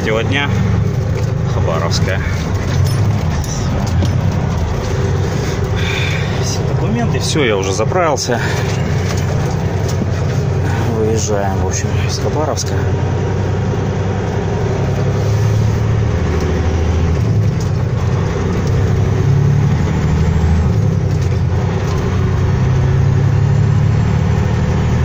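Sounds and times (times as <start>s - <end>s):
road noise: 0.0s - 25.0s
truck diesel engine droning: 0.0s - 25.0s.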